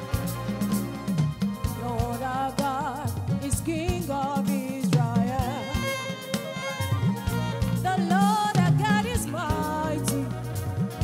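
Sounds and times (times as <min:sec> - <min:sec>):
gospel band playing: 0:00.0 - 0:11.0
women singing: 0:01.7 - 0:10.8.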